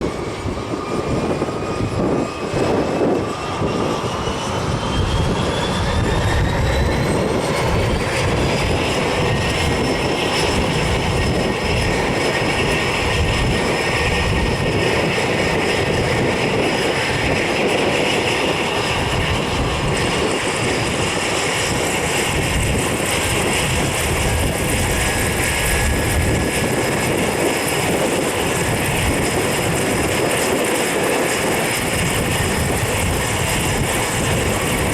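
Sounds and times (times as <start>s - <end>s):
turboprop turbine whine: 0.0s - 34.9s
wind buffeting microphone: 0.0s - 34.9s.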